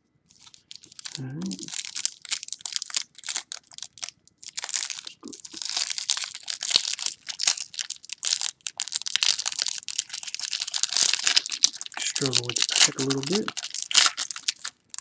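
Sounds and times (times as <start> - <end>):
plastic wrapper crinkling: 0.3 - 15.0.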